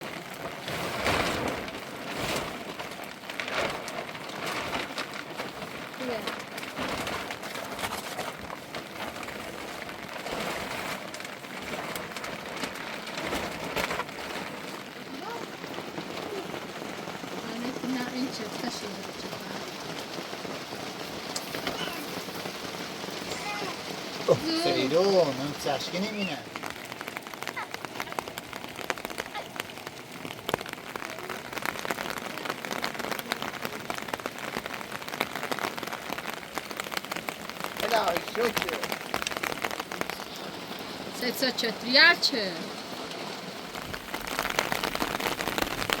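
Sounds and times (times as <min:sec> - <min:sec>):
raindrops ticking: 0:00.0 - 0:46.0
steady rain hiss: 0:00.0 - 0:46.0.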